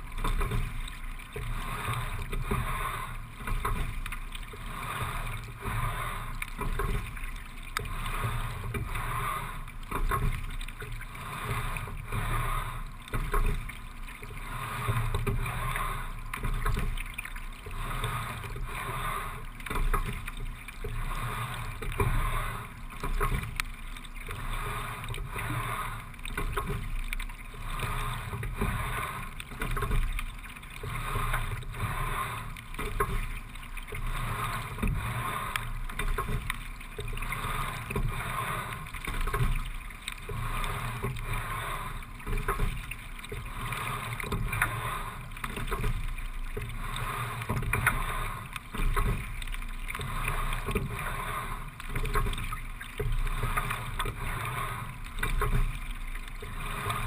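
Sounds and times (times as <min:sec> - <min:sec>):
oar and rigging clicks and knocks: 0:00.0 - 0:57.0
water rushing past a hull: 0:00.0 - 0:57.0.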